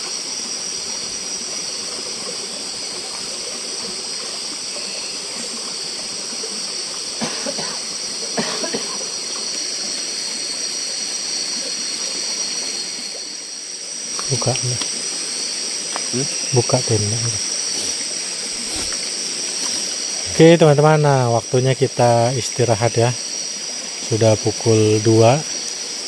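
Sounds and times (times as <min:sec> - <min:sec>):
night insects chorus: 0:00.0 - 0:26.0.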